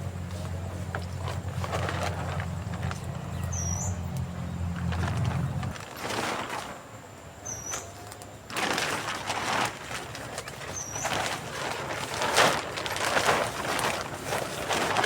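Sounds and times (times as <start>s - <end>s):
dry rustling and crunching: 0.0s - 15.0s.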